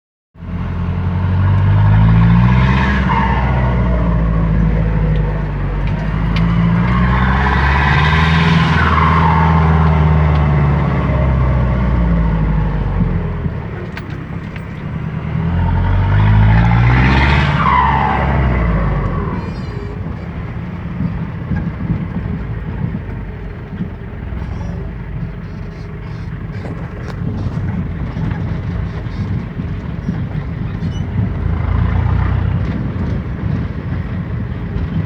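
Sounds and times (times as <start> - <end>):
high engine whine: 0.4 - 35.0
pickup engine revving: 0.4 - 35.0.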